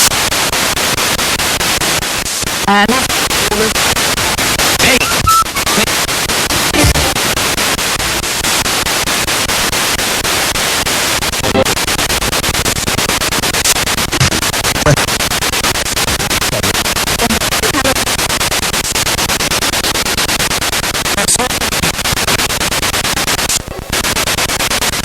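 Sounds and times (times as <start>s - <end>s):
snatches of broadcast sound: 0.0s - 25.0s
stuttering radio static: 0.0s - 25.0s.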